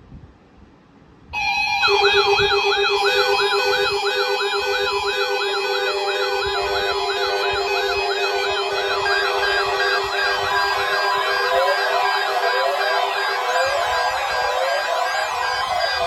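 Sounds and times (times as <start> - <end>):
electronic emergency alarm tones: 1.4 - 16.0.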